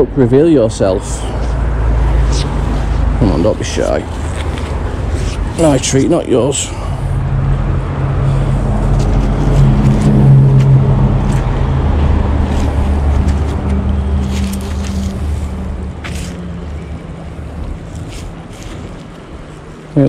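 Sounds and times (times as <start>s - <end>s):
passing vehicle engine drone: 0.1s - 19.5s.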